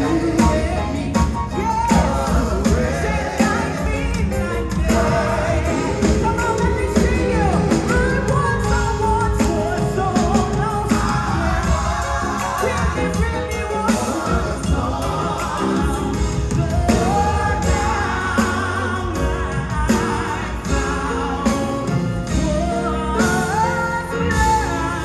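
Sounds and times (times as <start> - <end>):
drums: 0.0 - 25.0
gospel singing with band: 0.0 - 25.0.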